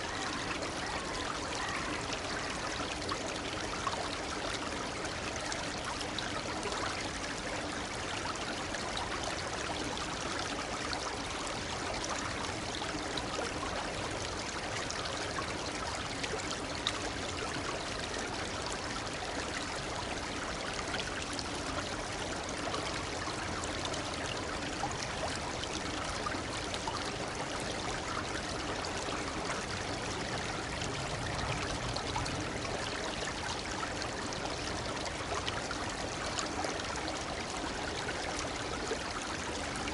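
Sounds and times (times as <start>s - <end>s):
babbling brook: 0.0s - 39.9s.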